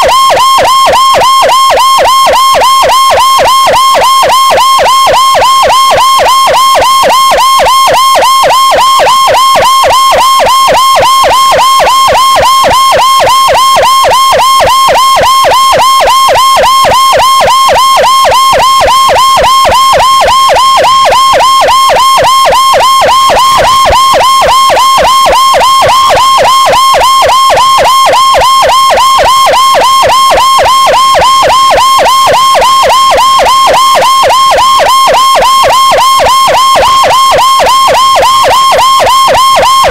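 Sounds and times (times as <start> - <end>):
electronic siren fast yelp: 0.0 - 39.9.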